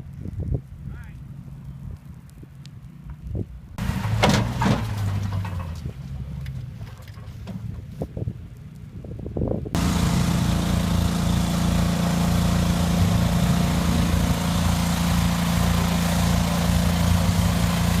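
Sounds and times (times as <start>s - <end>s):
engine humming: 1.2s - 8.8s, 9.8s - 18.0s.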